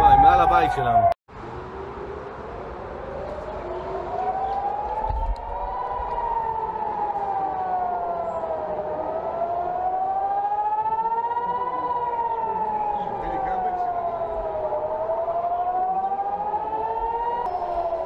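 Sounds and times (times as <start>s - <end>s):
rocket alert siren wailing: 0.0s - 1.2s, 3.1s - 18.0s.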